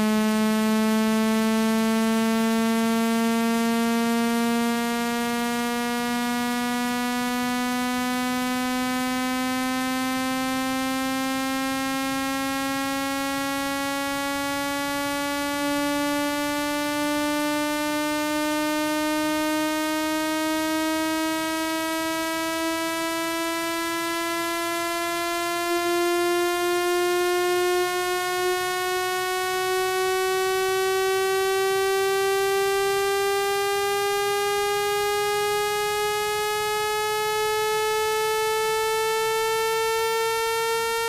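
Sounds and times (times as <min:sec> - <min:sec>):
low buzzing tone rising in pitch: 0:00.0 - 0:41.0.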